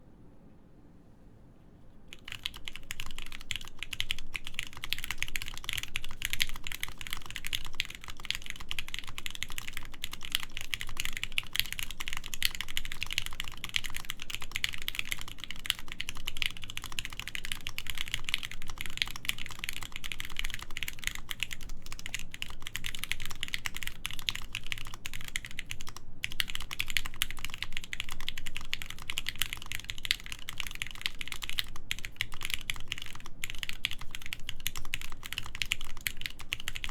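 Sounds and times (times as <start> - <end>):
fast typing on mechanical keyboard: 2.1 - 36.9.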